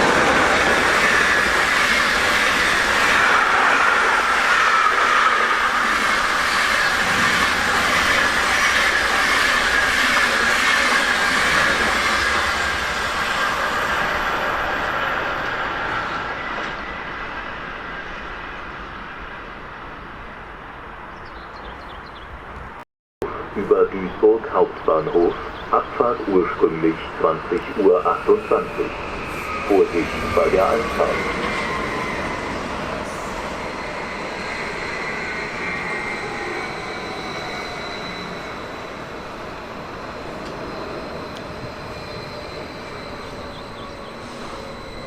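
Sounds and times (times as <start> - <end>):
train rolling: 0.0 - 21.8, 22.4 - 45.0.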